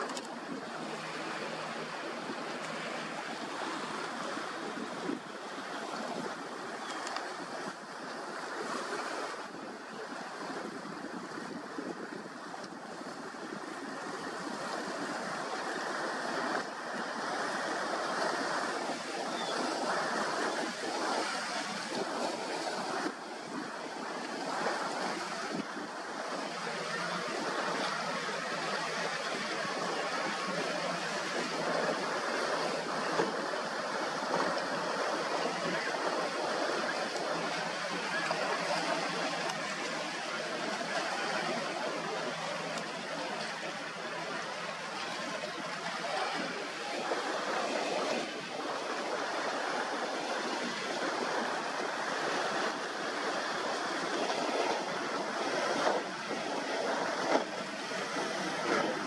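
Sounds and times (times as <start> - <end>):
surf and rushing water: 0.0 - 59.0
wind on microphone: 0.0 - 59.0.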